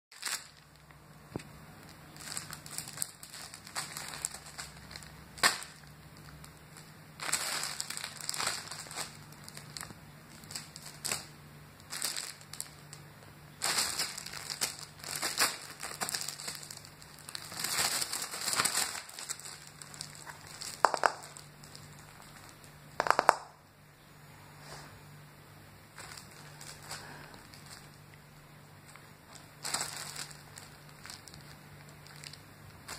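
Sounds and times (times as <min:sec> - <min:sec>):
cellophane crinkling: 0:00.1 - 0:23.6, 0:25.9 - 0:32.9.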